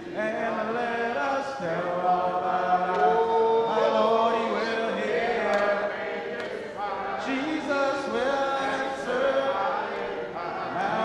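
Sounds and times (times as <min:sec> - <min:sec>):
congregation singing a cappella: 0:00.0 - 0:11.0.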